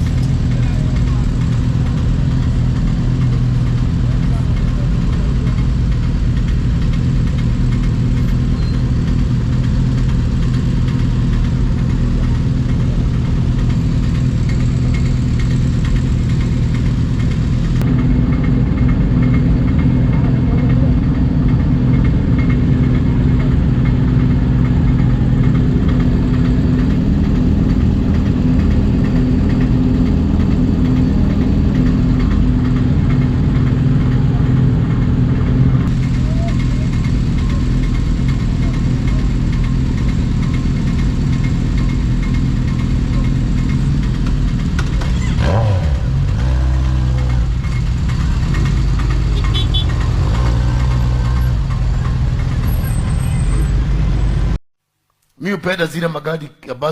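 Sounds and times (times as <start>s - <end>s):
vehicle engine running: 0.0s - 54.6s.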